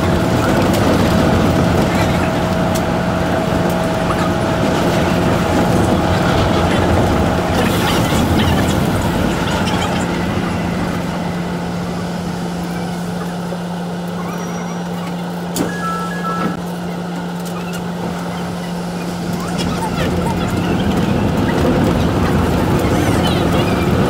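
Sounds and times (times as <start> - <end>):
constant low drone: 0.0 - 24.0
high steady whine: 0.0 - 24.0
monorail car rumble: 0.0 - 24.0.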